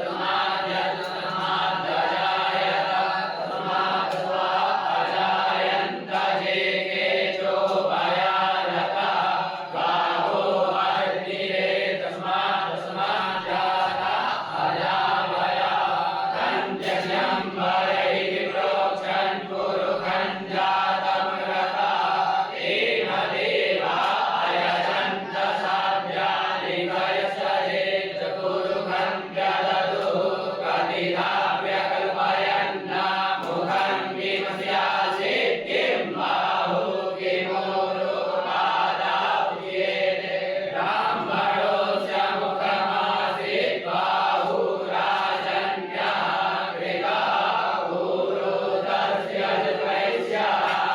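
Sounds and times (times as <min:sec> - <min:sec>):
group of voices chanting: 0:00.0 - 0:50.9.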